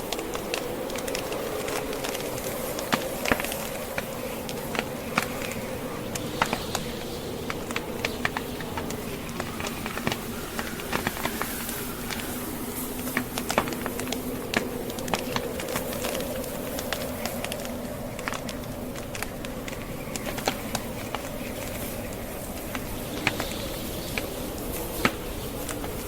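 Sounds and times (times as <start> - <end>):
fire pops and snaps: 0.0 - 26.0
log fire crackling: 0.0 - 26.0
rushing snowstorm wind: 0.0 - 26.0.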